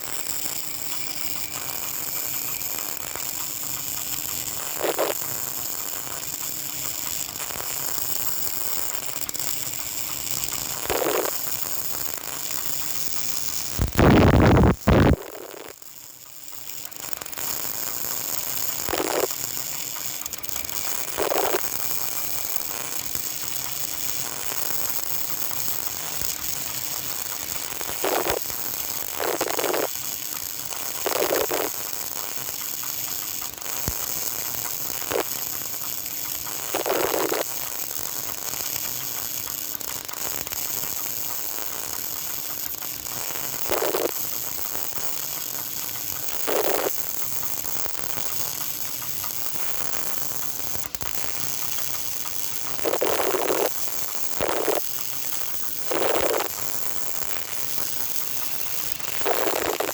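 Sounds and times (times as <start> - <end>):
welding arc hissing and crackling: 0.0 - 59.9.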